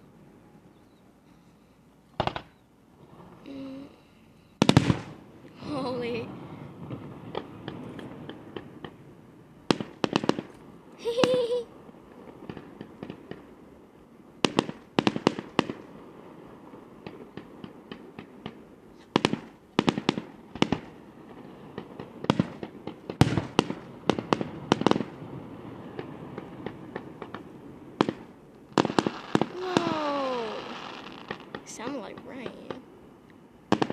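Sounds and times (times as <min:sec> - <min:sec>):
fireworks bangs and crackles: 0:02.1 - 0:03.6, 0:04.6 - 0:33.9.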